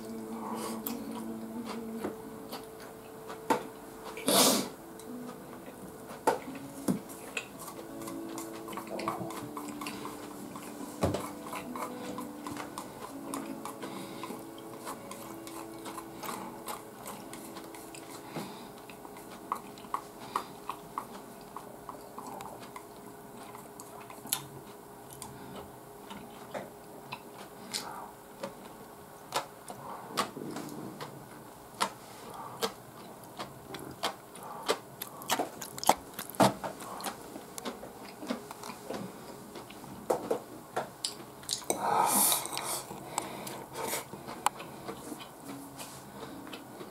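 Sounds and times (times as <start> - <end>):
chewing: 0.0 - 40.4, 41.0 - 46.9
faint background tune: 0.0 - 46.9.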